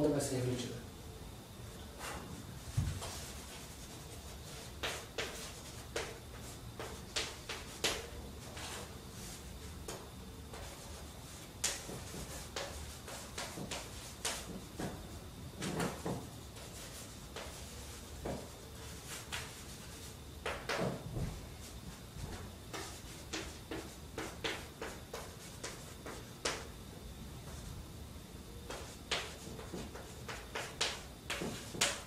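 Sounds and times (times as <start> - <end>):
chalk tapping and scraping on blackboard: 2.0 - 15.0, 15.6 - 21.0, 22.3 - 26.7, 28.7 - 32.0.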